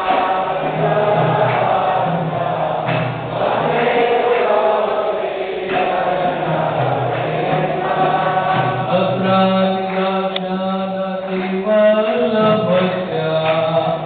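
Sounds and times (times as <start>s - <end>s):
devotional chanting: 0.0s - 14.0s.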